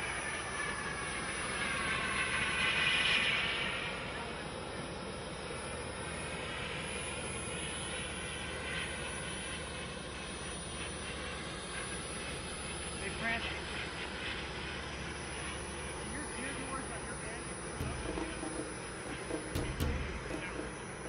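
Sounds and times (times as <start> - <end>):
model jet turbine engine: 0.0 - 21.0.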